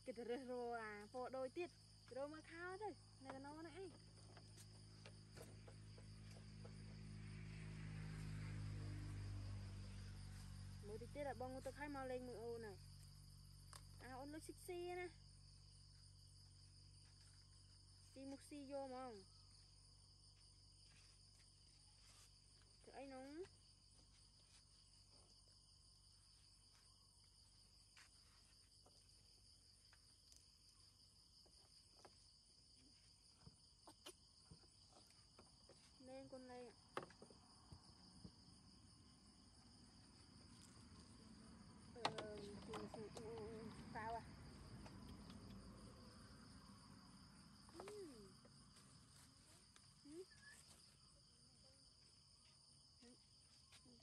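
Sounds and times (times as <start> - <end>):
night insects chirring: 0.0 - 54.0.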